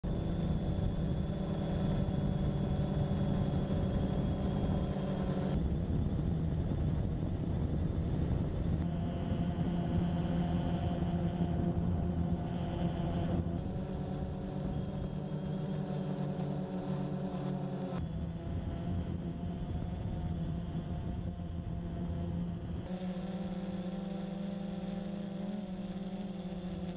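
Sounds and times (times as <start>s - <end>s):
drone motors buzzing: 0.0s - 26.9s.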